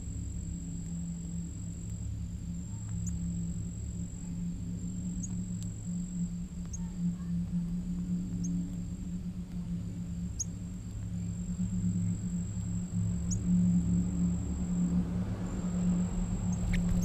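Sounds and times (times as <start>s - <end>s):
faint high insect trill: 0.0s - 17.0s
steady low hum: 0.0s - 17.0s.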